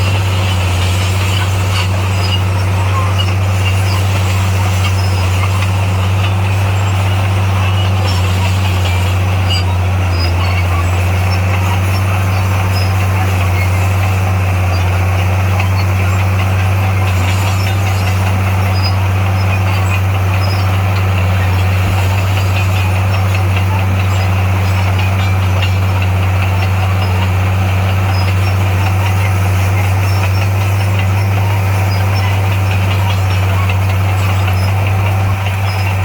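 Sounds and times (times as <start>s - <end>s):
heavy diesel engine humming: 0.0s - 36.0s.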